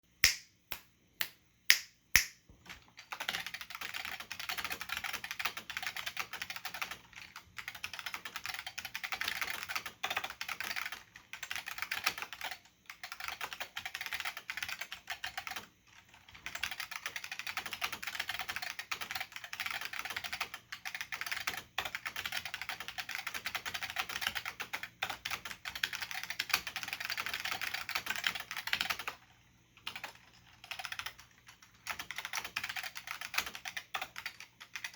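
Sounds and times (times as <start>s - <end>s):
keyboard typing: 3.0s - 34.9s.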